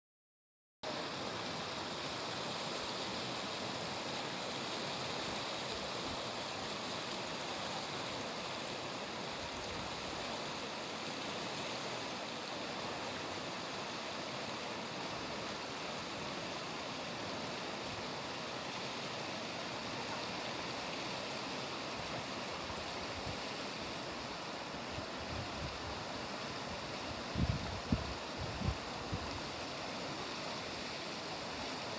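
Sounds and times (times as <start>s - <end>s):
river water rushing: 0.9s - 31.9s.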